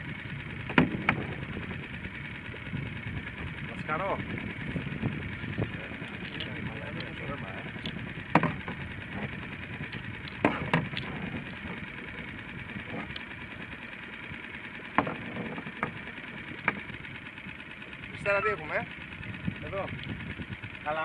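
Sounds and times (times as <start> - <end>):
background hum: 0.0 - 21.0
knocks and clicks on boat: 0.0 - 21.0.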